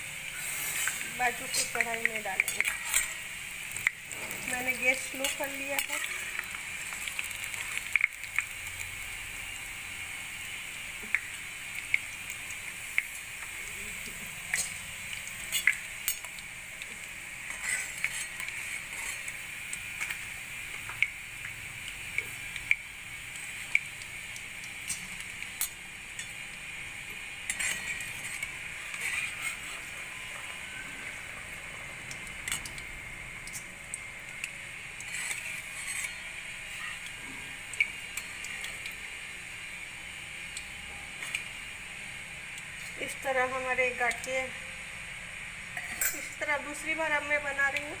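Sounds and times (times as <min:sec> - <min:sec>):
deep-frying sizzle in hot oil: 0:00.0 - 0:48.0.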